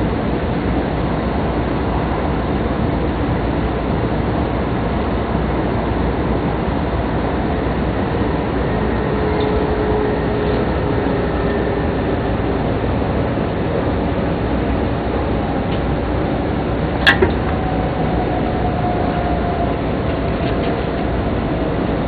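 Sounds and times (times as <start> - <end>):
train cabin running rumble: 0.0 - 22.0.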